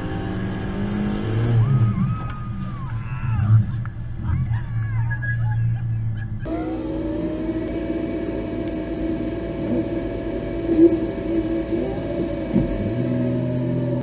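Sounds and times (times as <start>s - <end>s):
off-road vehicle engine: 0.0s - 14.0s.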